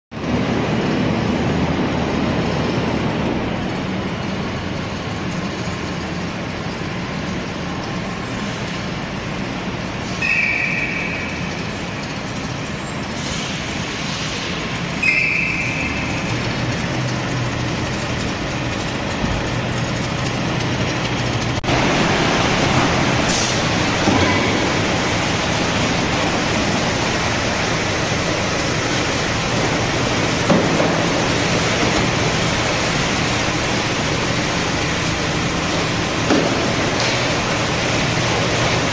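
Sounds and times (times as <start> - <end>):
truck engine running: 0.1 - 38.9.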